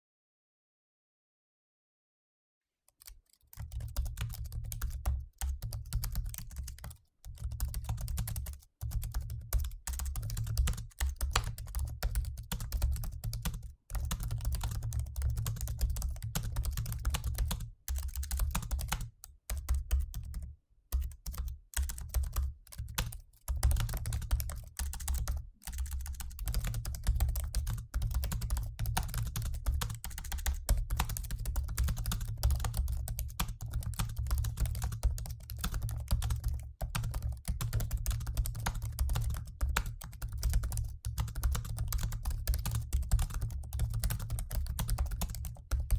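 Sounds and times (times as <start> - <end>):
laptop keyboard typing: 2.9 - 45.9.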